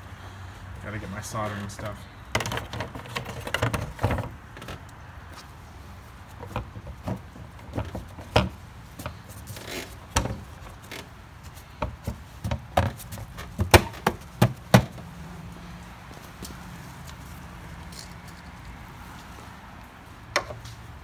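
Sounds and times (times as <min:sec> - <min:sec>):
rustle: 0:00.1 - 0:21.0.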